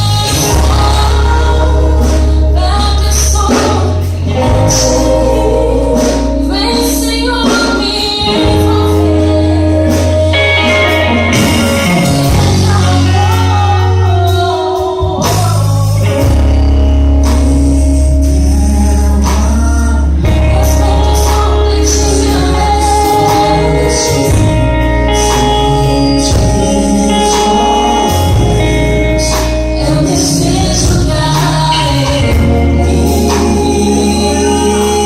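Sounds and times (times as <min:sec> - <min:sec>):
gospel band playing: 0:00.0 - 0:35.0
person singing: 0:00.0 - 0:35.0.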